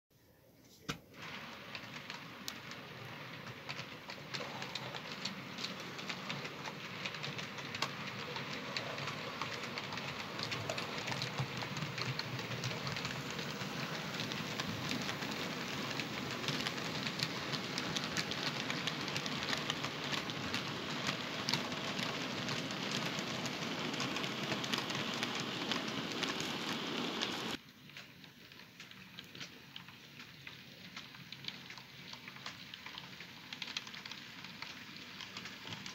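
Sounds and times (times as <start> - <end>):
model train wheels rattling: 1.2 - 35.9.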